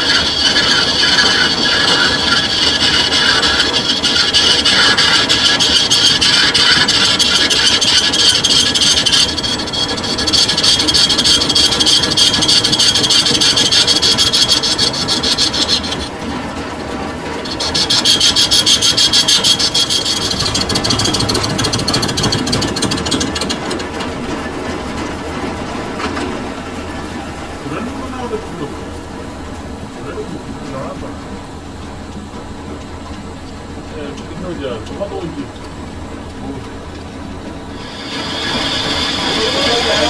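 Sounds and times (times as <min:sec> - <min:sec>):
machine running quietly: 0:00.0 - 0:40.0
metal lathe cutting: 0:00.0 - 0:40.0.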